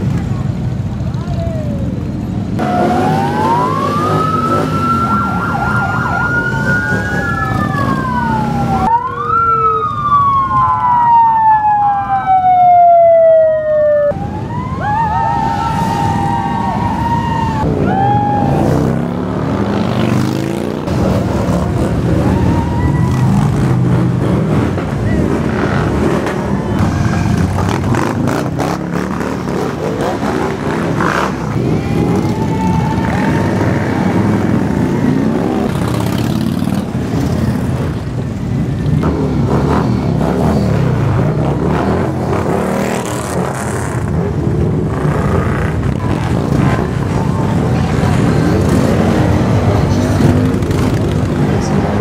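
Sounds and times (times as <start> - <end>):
motorcycle engines rumbling: 0.0 - 52.0.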